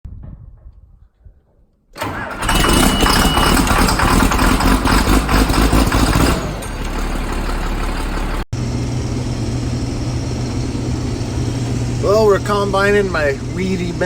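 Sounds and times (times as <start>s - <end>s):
combine harvester engine running: 2.0s - 14.0s.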